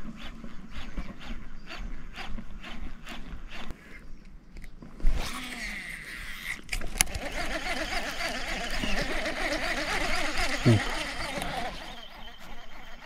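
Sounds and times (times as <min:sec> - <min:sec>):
fishing reel whirring: 0:00.1 - 0:03.7, 0:05.1 - 0:13.0.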